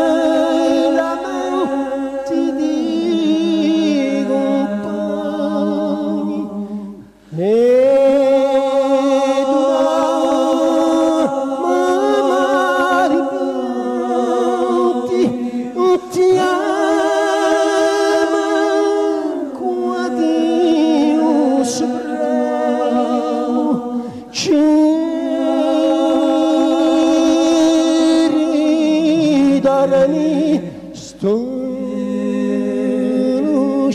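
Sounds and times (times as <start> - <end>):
voices singing with vibrato: 0.0 - 33.9.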